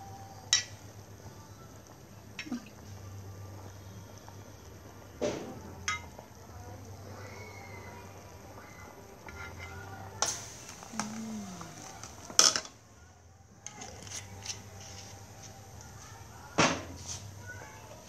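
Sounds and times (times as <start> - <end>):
low steady hum: 0.0 - 16.6.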